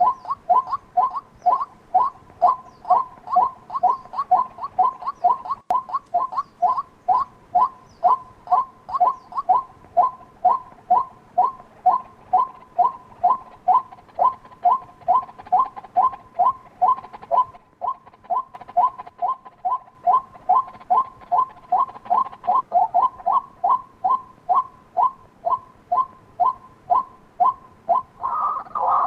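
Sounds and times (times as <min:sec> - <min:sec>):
waterhen calling: 0:00.0 - 0:29.0.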